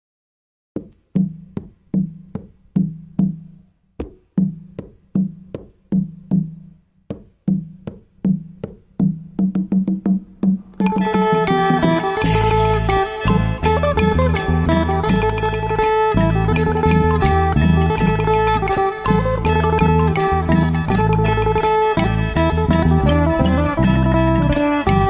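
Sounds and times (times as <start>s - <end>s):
pitched drum machine hits: 0.8s - 25.0s.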